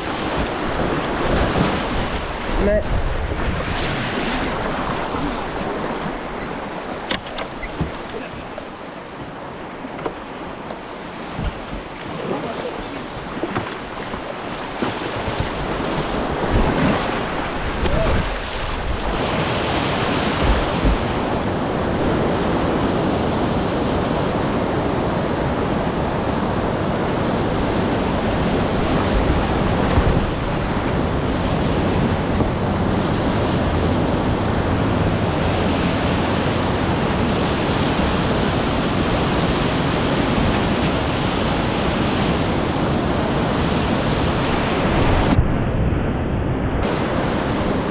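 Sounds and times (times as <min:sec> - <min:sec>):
river whitewater rushing: 0:00.0 - 0:45.4, 0:46.8 - 0:47.9.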